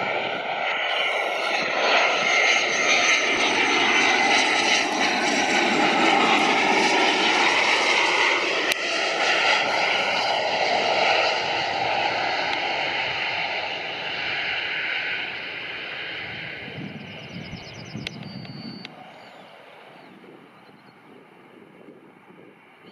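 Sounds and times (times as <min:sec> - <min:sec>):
jet engines running: 0:00.0 - 0:22.9.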